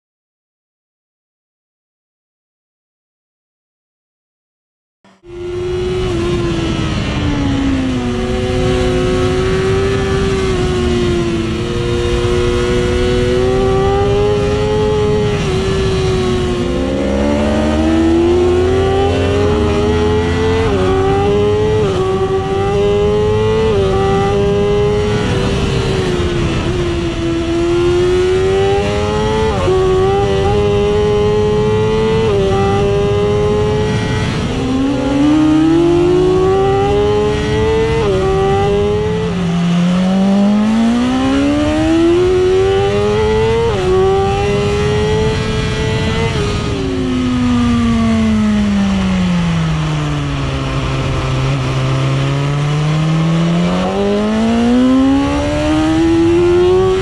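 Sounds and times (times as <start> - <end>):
motorcycle engine revving: 5.1 - 57.0
wind rush: 5.3 - 57.0.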